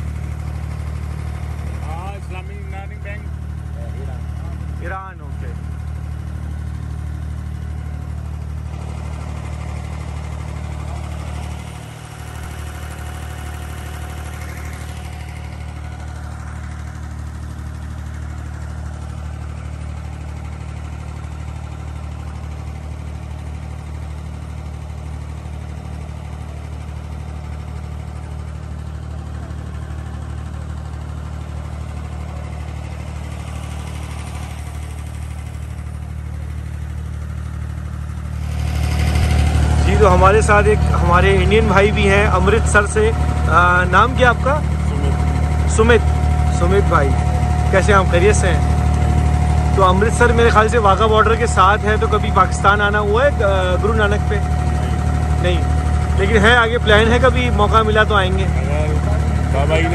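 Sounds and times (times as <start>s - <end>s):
boat diesel engine droning: 0.0s - 59.9s.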